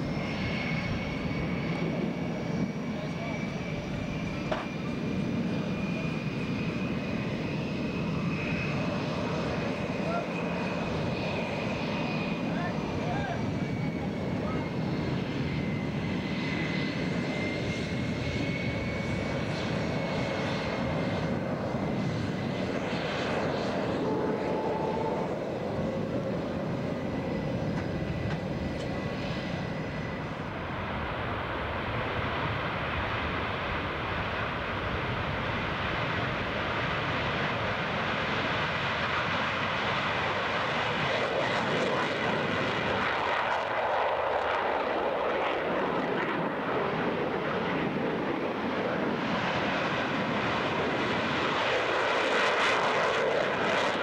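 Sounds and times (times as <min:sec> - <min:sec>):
jet engines taxiing: 0:00.0 - 0:54.0
jet taking off: 0:00.0 - 0:54.0.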